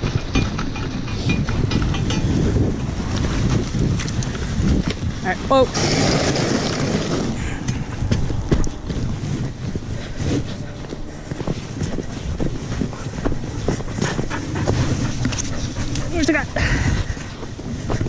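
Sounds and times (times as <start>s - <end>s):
sled knocking and rattling: 0.0s - 18.0s
sled runners on snow: 0.0s - 18.0s
wind on microphone: 0.0s - 18.0s.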